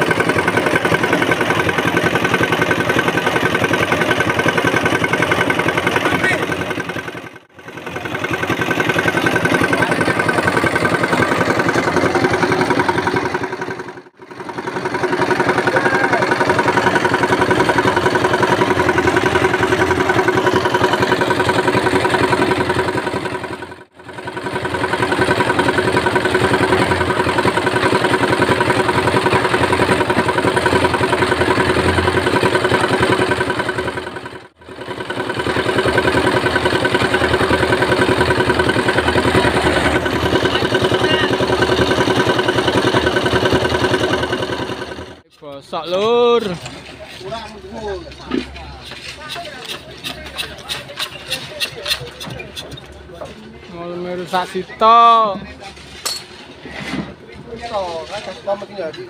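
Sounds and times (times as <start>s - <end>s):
concrete mixer engine running: 0.0s - 59.0s
drum turning wet concrete: 0.0s - 59.0s.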